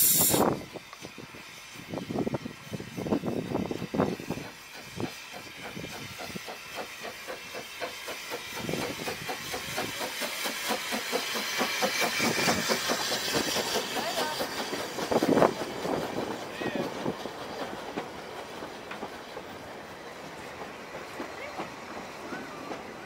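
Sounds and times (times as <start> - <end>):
steam hiss: 0.0 - 23.0
steam locomotive exhaust chuffs: 0.0 - 23.0
train carriages rolling: 3.2 - 23.0.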